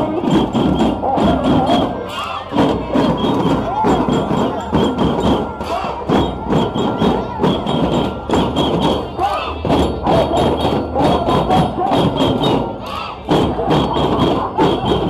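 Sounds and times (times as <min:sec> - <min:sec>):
drums beating steady rhythm: 0:00.0 - 0:15.0
large crowd voices: 0:00.0 - 0:15.0.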